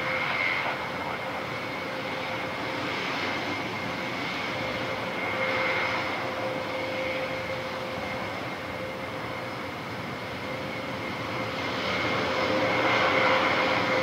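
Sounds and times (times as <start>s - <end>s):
high engine whine: 0.0s - 14.0s
turboprop engines droning: 0.0s - 14.0s.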